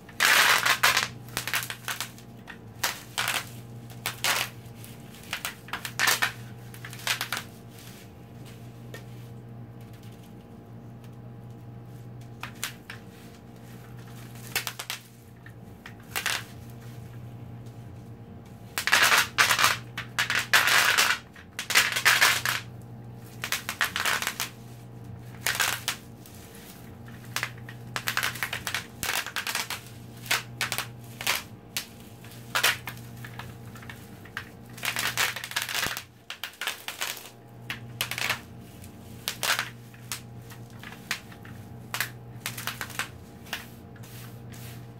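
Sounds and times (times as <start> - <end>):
bubble wrap popping: 0.0 - 44.9
low steady hum: 0.0 - 44.9.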